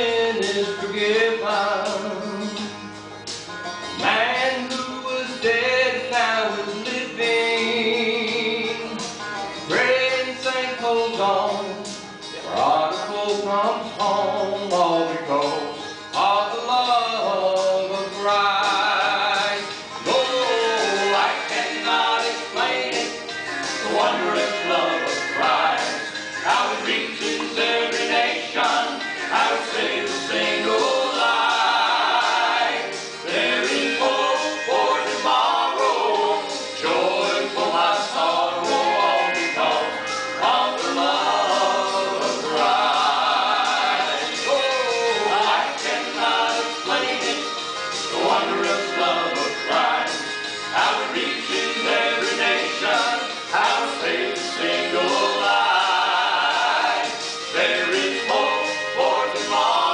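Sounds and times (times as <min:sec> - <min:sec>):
vocal group singing: 0:00.0 - 0:02.9, 0:03.9 - 0:59.9
instrumental accompaniment: 0:00.0 - 0:59.9.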